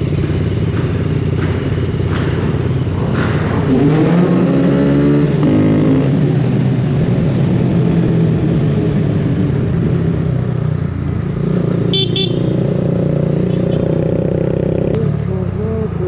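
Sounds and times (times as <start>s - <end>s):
motorcycle engine running: 0.0s - 3.8s, 5.0s - 16.0s.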